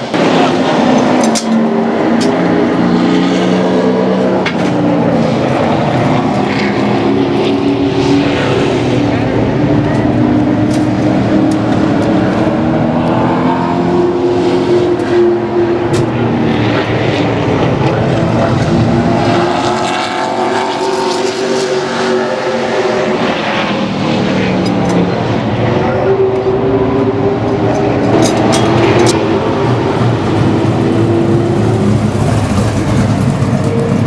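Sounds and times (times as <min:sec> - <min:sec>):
race car engines at speed: 0:00.0 - 0:34.0.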